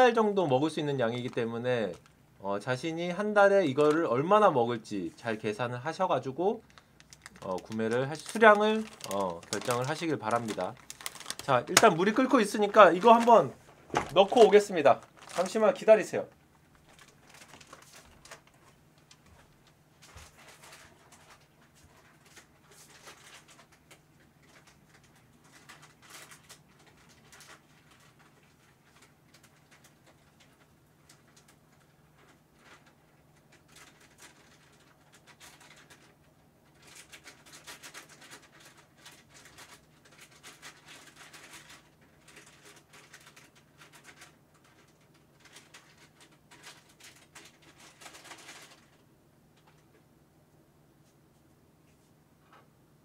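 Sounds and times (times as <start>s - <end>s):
faint rustling and clicking: 6.6s - 52.7s.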